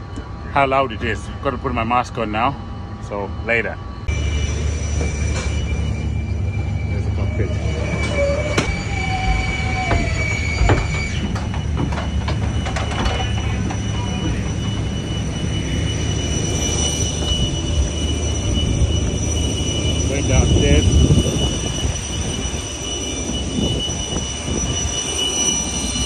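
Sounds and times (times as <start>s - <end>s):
low aircraft rumble: 0.0s - 22.6s
high steady whines: 0.0s - 26.0s.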